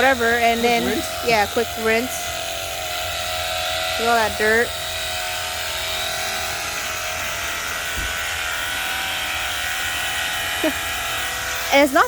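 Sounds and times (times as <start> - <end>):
pressure washer pump whining: 0.0 - 12.0.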